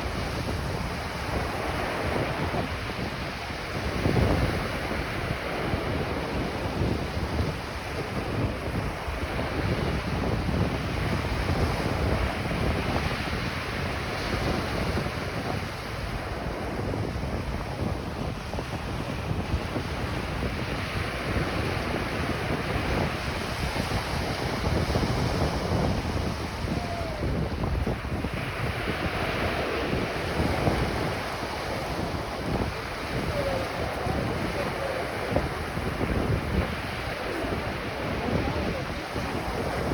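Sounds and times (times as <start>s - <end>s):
ocean surf washing onto beach: 0.0s - 39.9s
wind rumbling on microphone: 0.0s - 39.9s.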